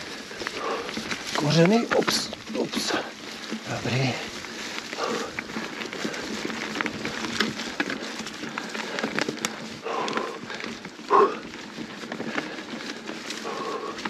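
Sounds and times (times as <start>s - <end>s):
bike rattling over twigs: 0.0s - 14.0s
rider grunting: 0.0s - 14.0s.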